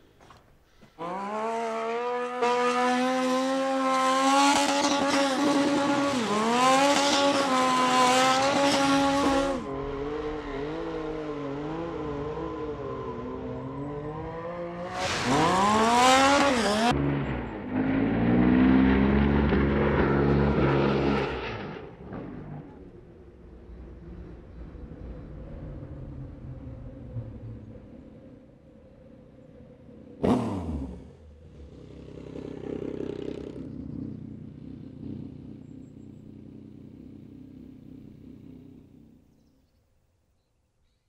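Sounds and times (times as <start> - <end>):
motorcycle engine revving: 0.2 - 28.4, 29.8 - 39.6.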